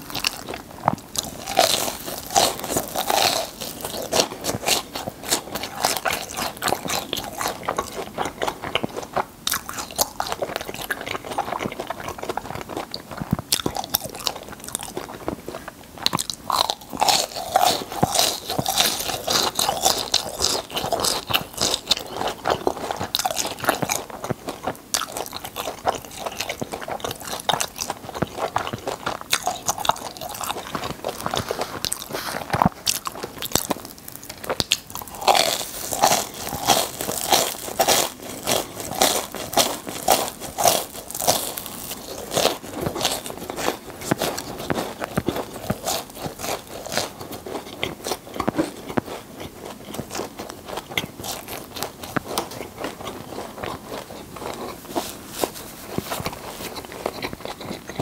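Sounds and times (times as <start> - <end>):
crunchy food chewing: 0.0 - 58.0.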